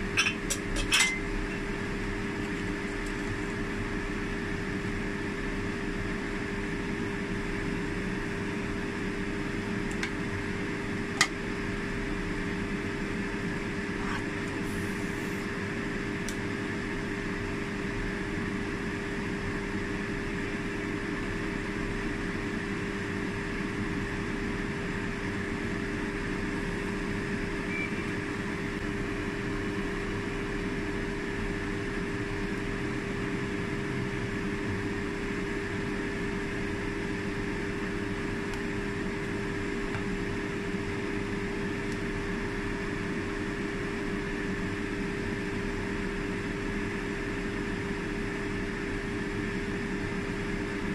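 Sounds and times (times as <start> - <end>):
fan motor hum: 0.0 - 50.9.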